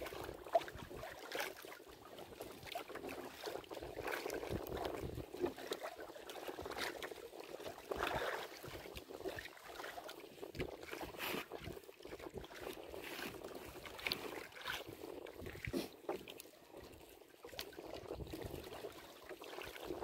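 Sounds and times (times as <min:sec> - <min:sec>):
water splashing against boat hull: 0:00.0 - 0:20.0.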